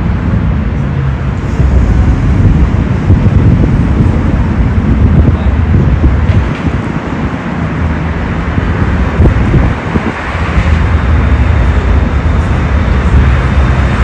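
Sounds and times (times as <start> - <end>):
tram wheels rumbling on rail: 0.0 - 14.0.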